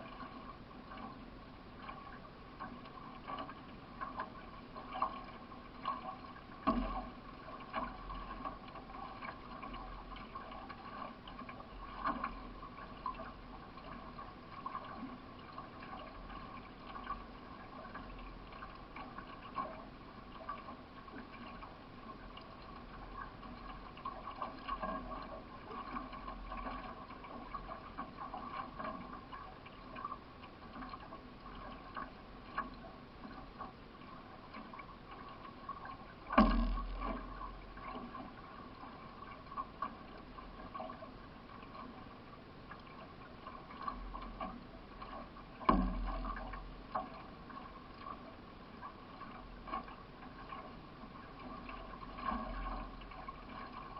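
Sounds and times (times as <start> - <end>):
paddle stroke splashes: 0.0 - 53.9
water rushing along canoe hull: 0.0 - 53.9.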